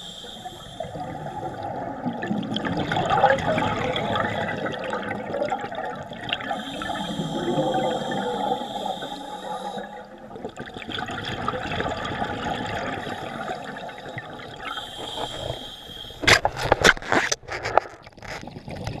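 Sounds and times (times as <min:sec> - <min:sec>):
underwater bubbles gurgling: 0:00.0 - 0:17.1, 0:18.1 - 0:19.0.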